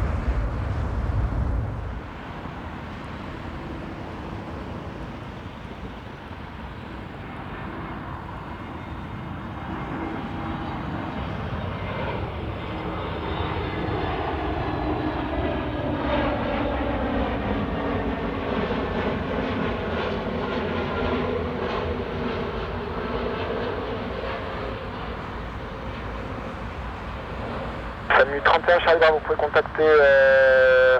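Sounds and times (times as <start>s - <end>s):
jet engine whine: 0.0s - 30.9s
jet engines at high thrust: 0.0s - 30.9s.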